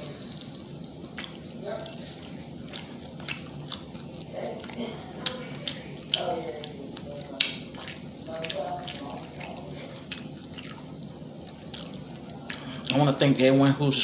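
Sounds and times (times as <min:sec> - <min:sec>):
wet chewing and smacking: 0:00.0 - 0:13.4.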